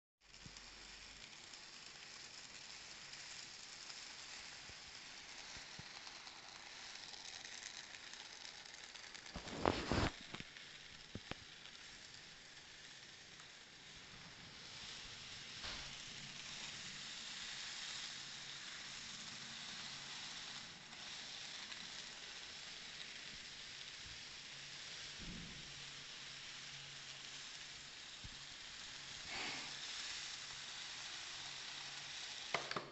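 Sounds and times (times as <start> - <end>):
model train hiss and rattle: 0.2 - 32.9.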